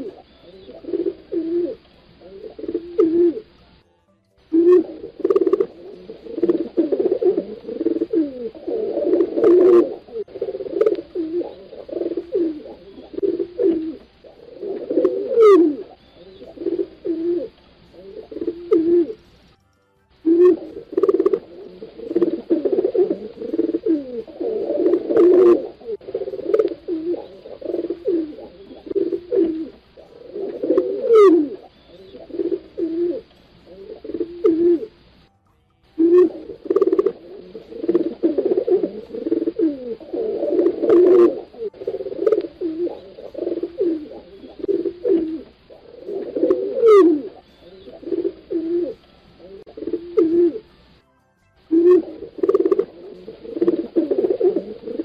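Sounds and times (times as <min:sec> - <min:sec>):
pigeons cooing: 0:00.0 - 0:03.7, 0:04.5 - 0:19.5, 0:20.2 - 0:35.2, 0:36.0 - 0:51.0, 0:51.7 - 0:55.0.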